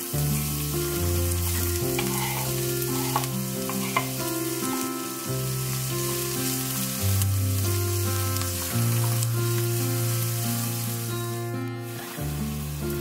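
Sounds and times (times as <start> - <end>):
onion and garlic sizzling in oil: 0.0 - 13.0
slow background music: 0.0 - 13.0
wooden spatula stirring in pan: 0.4 - 11.1.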